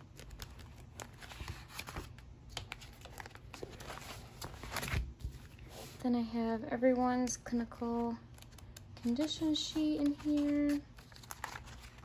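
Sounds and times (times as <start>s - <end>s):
paper pages rustling: 0.0s - 6.0s, 8.0s - 12.0s.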